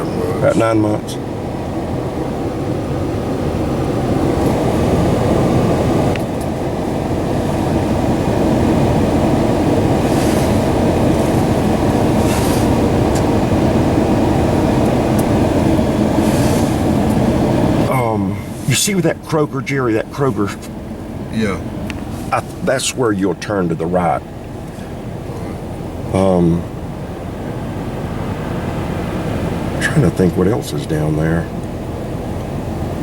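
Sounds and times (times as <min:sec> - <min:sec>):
road and engine noise inside truck cab: 0:00.0 - 0:33.0.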